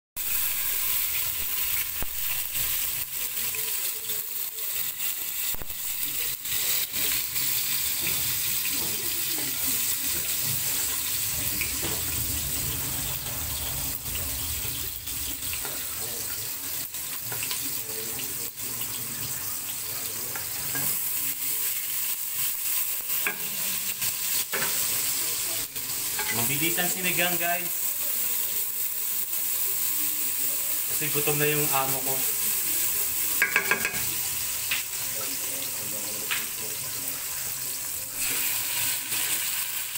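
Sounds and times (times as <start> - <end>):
vegetables sizzling in oil: 0.2 - 39.9.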